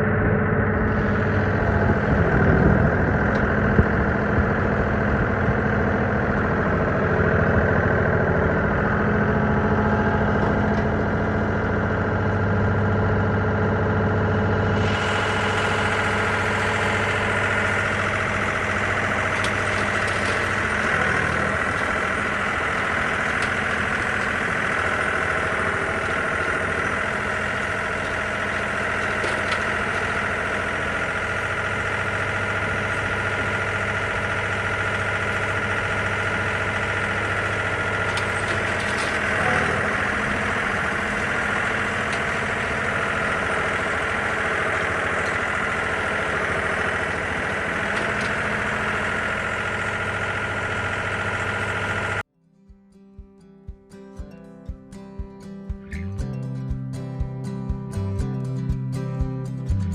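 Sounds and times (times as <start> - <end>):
high mechanical whine: 0.0 - 52.2
tractor engine running: 0.0 - 52.3, 53.2 - 59.9.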